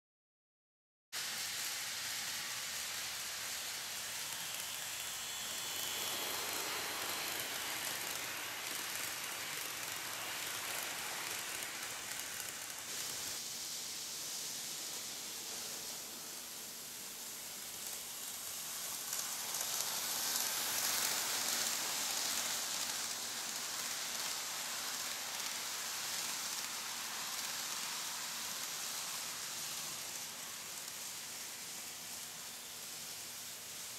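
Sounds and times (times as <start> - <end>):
model train whirring: 1.2 - 33.9.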